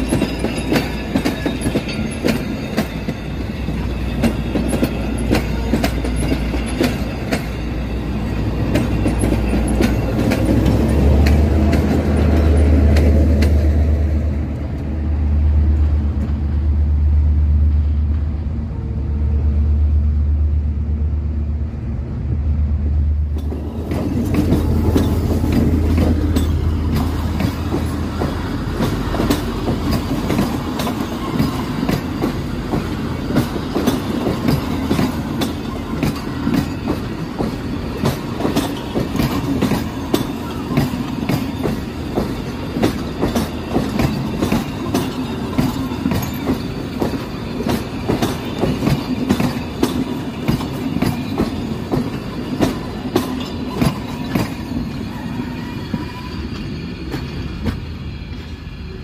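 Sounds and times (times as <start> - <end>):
wheels clacking over rail joints: 0.0 - 14.9, 23.2 - 57.8.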